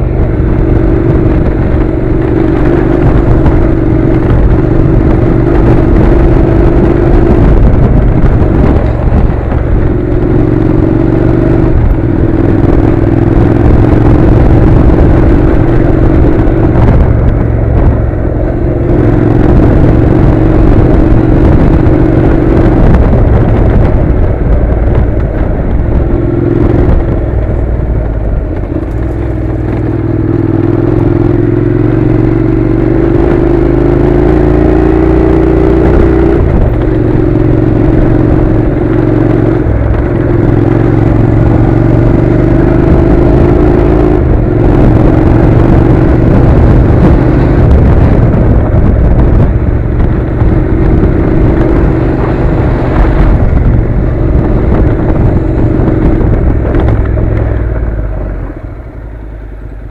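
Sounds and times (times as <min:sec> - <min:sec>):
motorcycle engine revving: 0:00.0 - 0:59.9
road noise: 0:00.0 - 0:59.9.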